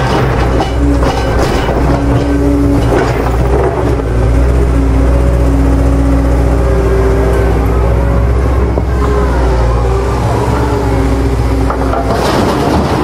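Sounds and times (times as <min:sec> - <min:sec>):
low engine-like drone: 0:00.0 - 0:13.0.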